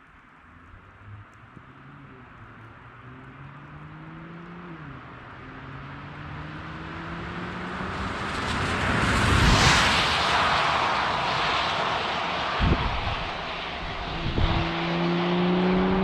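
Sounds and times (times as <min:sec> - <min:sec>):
car accelerating past: 0:00.6 - 0:16.0.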